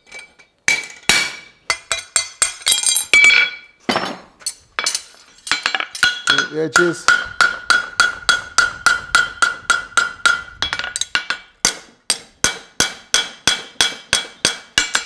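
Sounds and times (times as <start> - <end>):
hammer striking horseshoe on anvil: 0.2 - 4.2, 4.8 - 15.0.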